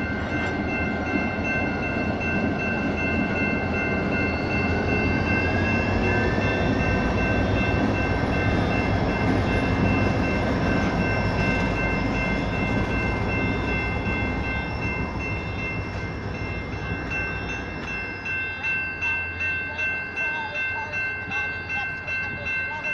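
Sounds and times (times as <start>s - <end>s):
crossing bells ringing: 0.0s - 22.9s
diesel locomotive engines running: 0.0s - 22.9s.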